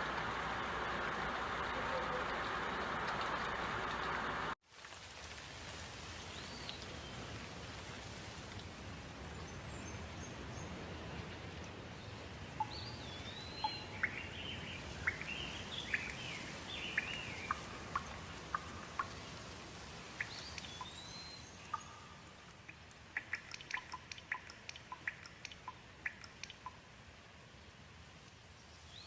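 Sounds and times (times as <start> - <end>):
water drips: 0.0 - 10.1, 11.2 - 27.0
steady rain: 0.0 - 29.0.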